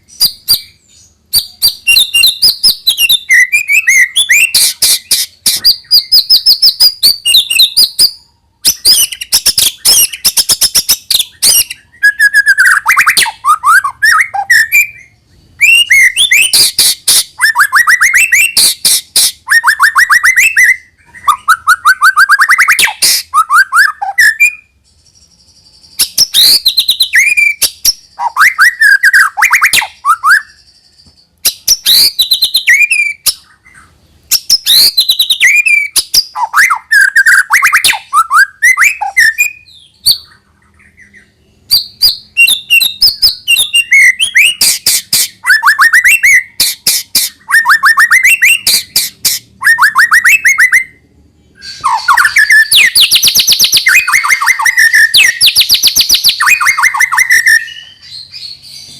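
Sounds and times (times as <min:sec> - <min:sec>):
bird singing trills and whistles: 0:00.0 - 0:58.9.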